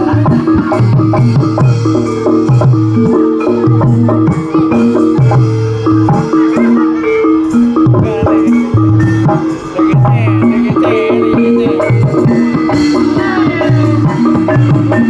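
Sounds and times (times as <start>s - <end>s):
metallophones playing a melody: 0.0s - 15.0s.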